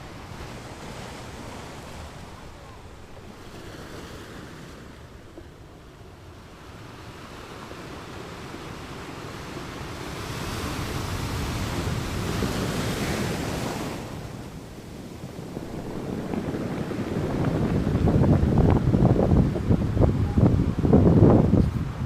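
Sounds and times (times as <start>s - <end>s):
wind blowing in gusts: 0.0s - 22.0s.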